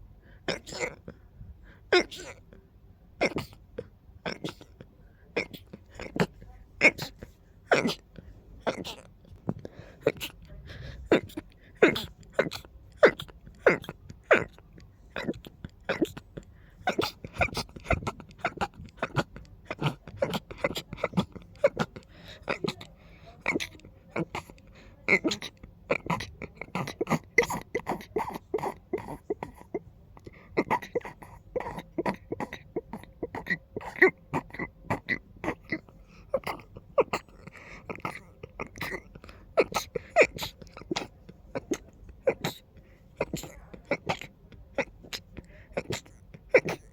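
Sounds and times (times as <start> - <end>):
person sneezing: 1.9 - 2.4, 5.4 - 46.9.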